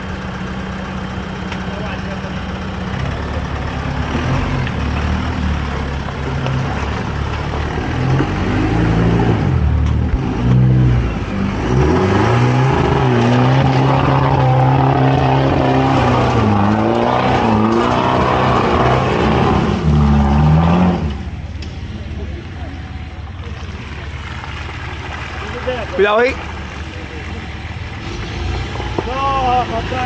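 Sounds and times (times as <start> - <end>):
car engine revving: 1.7 - 30.0.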